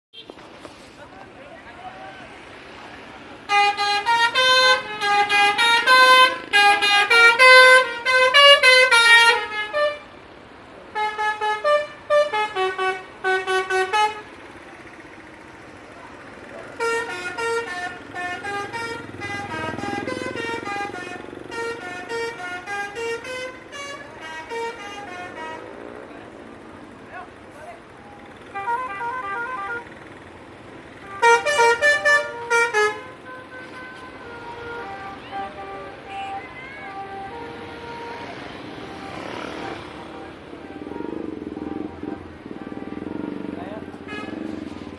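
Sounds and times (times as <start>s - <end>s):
bus musical air horn toots: 3.4s - 15.0s, 16.4s - 26.0s, 28.3s - 30.3s, 30.9s - 44.9s.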